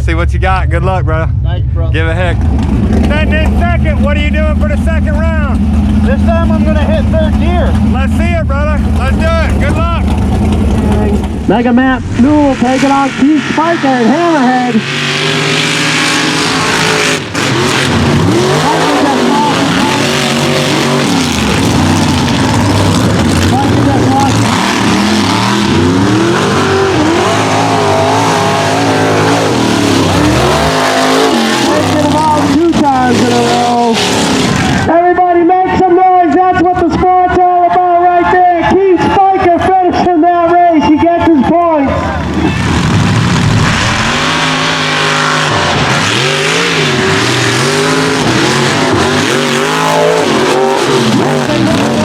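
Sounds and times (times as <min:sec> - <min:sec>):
truck engines revving hard: 0:00.0 - 0:52.0.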